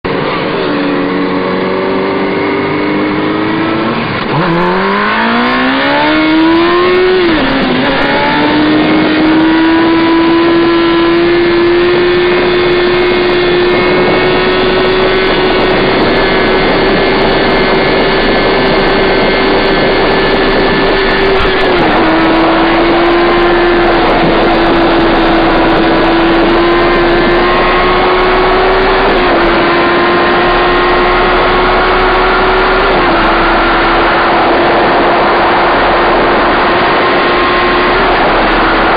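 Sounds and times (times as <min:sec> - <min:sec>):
steady rushing noise: 0:00.0 - 0:38.9
motorcycle engine accelerating: 0:00.1 - 0:38.9.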